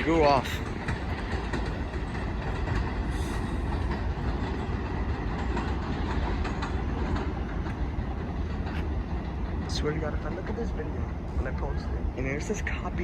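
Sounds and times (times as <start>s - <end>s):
wheels clicking over rails: 0.0s - 11.8s
subway train rumbling on tracks: 0.0s - 13.0s.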